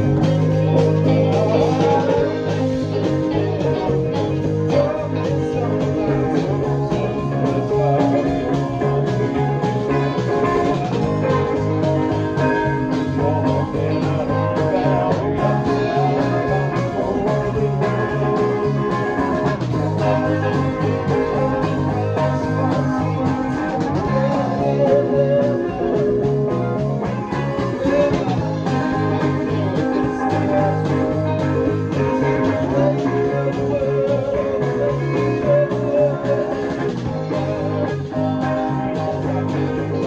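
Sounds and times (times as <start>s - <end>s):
drums: 0.0s - 40.0s
electric bass line: 0.0s - 40.0s
rock band playing: 0.0s - 40.0s.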